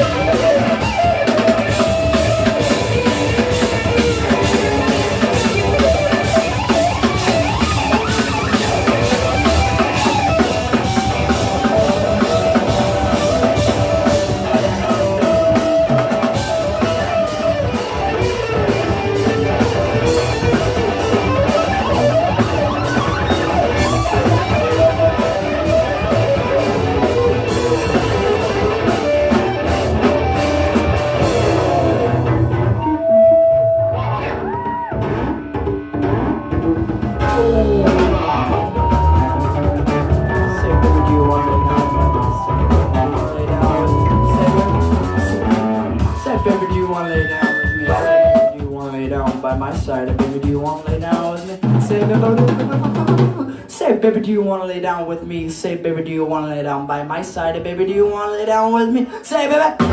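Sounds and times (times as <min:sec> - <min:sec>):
rock band playing: 0:00.0 - 0:53.7.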